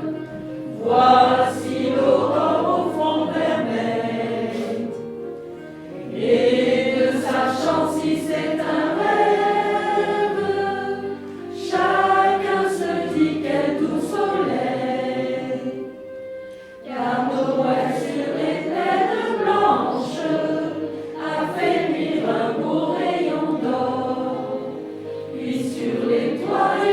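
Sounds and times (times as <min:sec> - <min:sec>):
choir singing a christmas song: 0:00.0 - 0:26.9.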